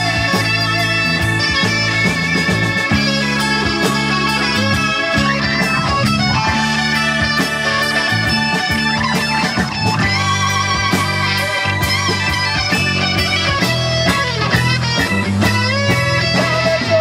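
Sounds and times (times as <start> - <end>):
bass guitar: 0.0 - 17.0
drums: 0.0 - 17.0
electric guitar lead: 0.0 - 17.0.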